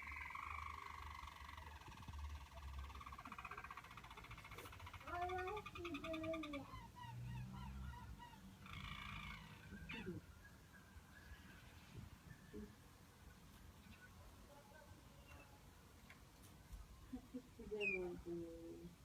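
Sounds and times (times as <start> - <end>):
canary singing trills: 0.0 - 15.7, 17.1 - 19.0.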